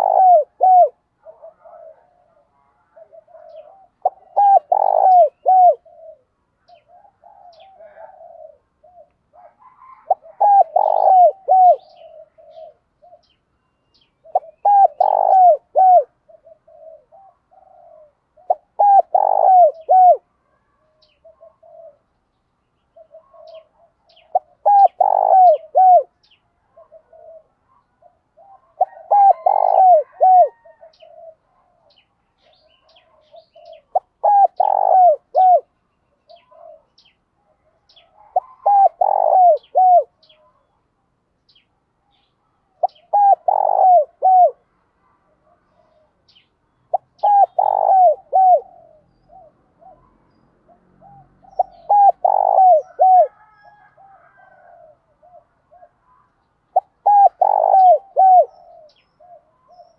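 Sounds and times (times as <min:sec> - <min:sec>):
dove cooing: 0:00.0 - 0:13.4, 0:14.1 - 0:22.1, 0:22.8 - 0:40.6, 0:42.8 - 0:44.6, 0:45.4 - 0:59.9.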